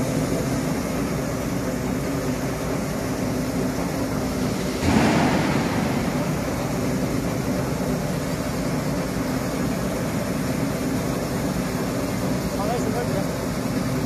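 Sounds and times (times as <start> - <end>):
potato washing machine running: 0.0 - 14.0.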